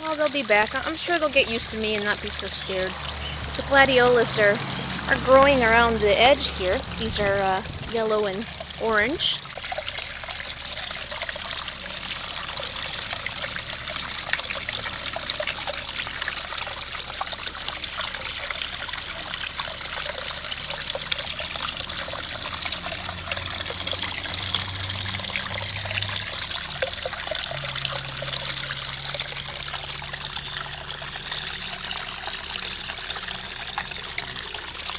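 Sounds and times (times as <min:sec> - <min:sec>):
pond waterfall trickling: 0:00.0 - 0:34.9.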